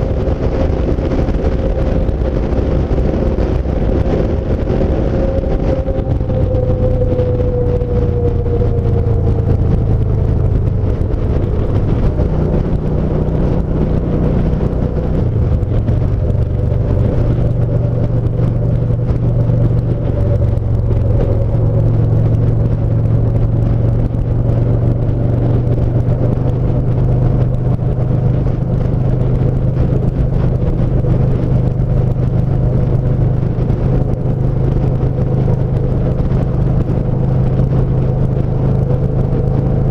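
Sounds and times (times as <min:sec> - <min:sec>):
motorcycle engine cruising: 0:00.0 - 0:39.9
tyre and wind noise: 0:00.0 - 0:39.9.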